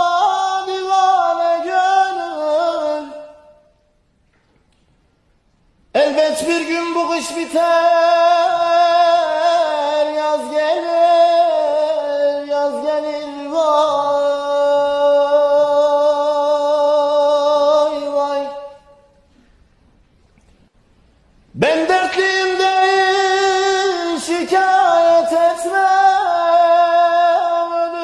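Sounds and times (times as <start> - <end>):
solo voice singing slow melody: 0.0 - 3.7, 5.9 - 19.2, 21.5 - 28.0.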